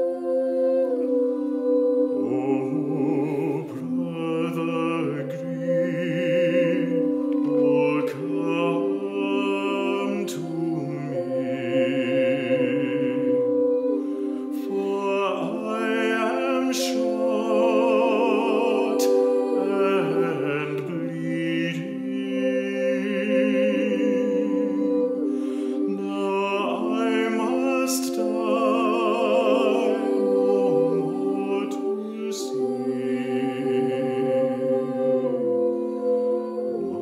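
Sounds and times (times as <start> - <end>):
girls singing with vibrato: 0.0 - 37.0.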